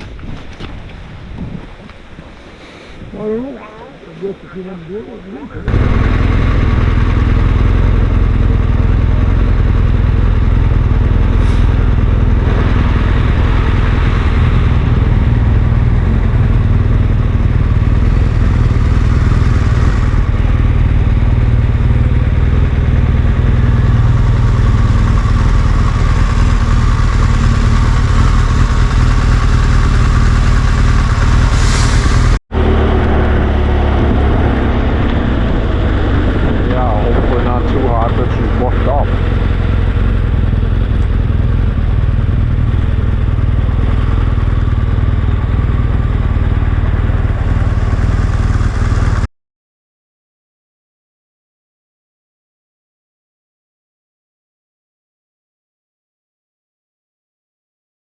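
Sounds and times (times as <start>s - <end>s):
vehicle road and wind rumble: 0.0s - 49.3s.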